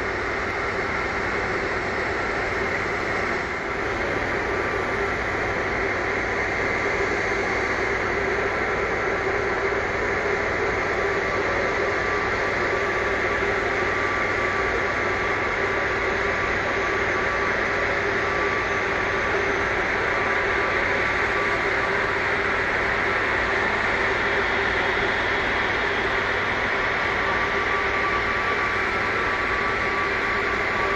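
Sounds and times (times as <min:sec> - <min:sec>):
faint jet engine whine: 0:00.0 - 0:30.9
jet engines humming: 0:00.0 - 0:30.9.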